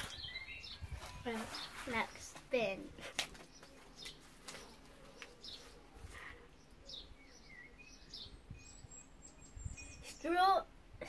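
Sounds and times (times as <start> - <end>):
bird chirps: 0.0 - 2.4, 3.3 - 10.4.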